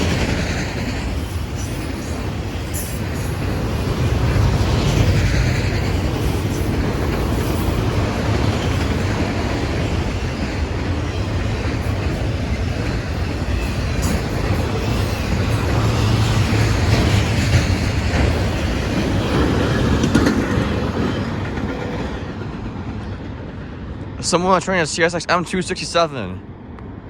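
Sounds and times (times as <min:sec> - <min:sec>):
wheels clacking over rail joints: 0:00.0 - 0:23.7
freight cars rolling past: 0:00.0 - 0:25.0.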